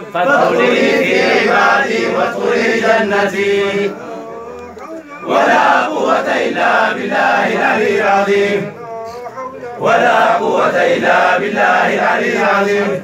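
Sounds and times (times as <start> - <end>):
group of men chanting: 0.0 - 13.0.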